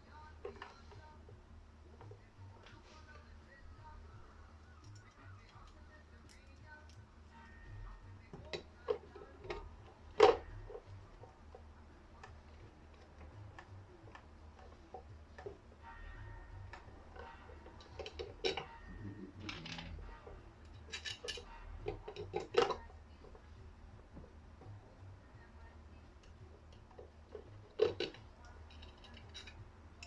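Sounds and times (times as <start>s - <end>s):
small parts and tools clattering: 0.0s - 4.0s, 4.7s - 23.6s, 26.2s - 30.0s
steady low hum: 0.0s - 30.0s.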